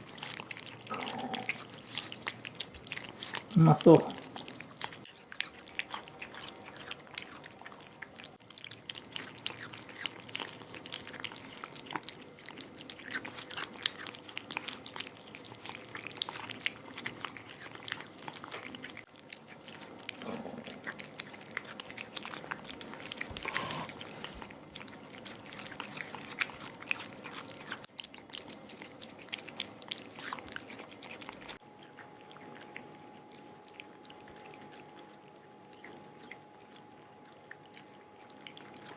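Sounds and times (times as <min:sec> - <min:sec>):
cat eating wet food: 0:00.0 - 0:38.9.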